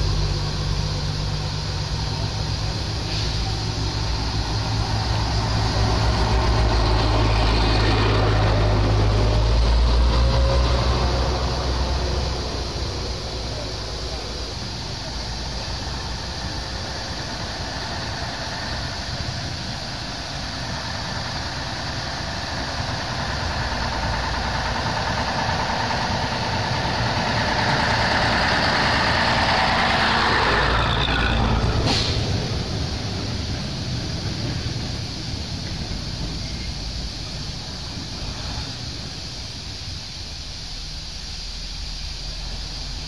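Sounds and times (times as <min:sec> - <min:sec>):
bus engine passing by: 0:00.0 - 0:43.0
steam engine low rumble: 0:00.0 - 0:43.0.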